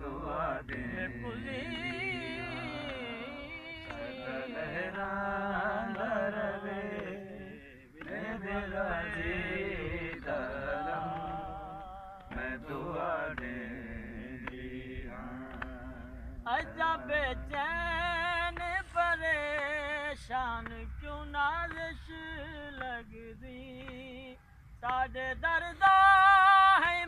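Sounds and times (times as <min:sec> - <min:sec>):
man chanting a lament: 0:00.0 - 0:27.0.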